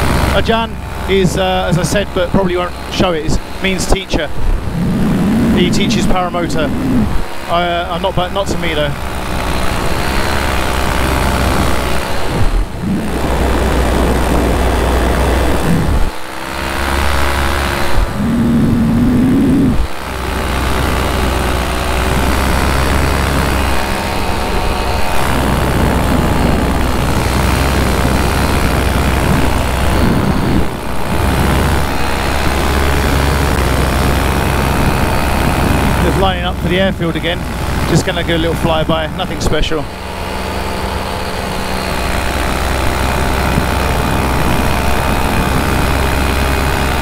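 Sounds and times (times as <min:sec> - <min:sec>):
paramotor engine and propeller: 0:00.0 - 0:47.0
wind rumbling on microphone: 0:00.0 - 0:47.0.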